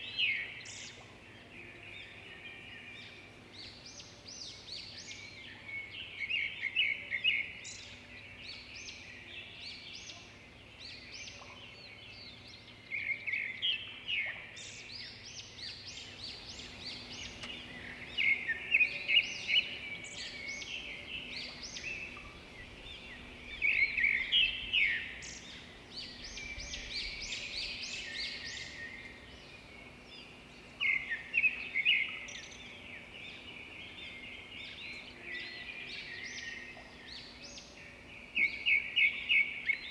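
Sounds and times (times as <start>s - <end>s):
birds chirping: 0.0s - 39.9s
steady background hiss: 0.0s - 39.9s.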